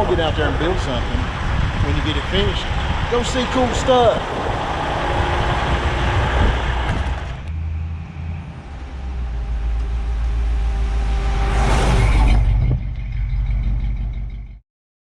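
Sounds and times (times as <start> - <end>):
hissing rush: 0.0 - 12.3
vehicle engine rumbling: 0.0 - 14.6.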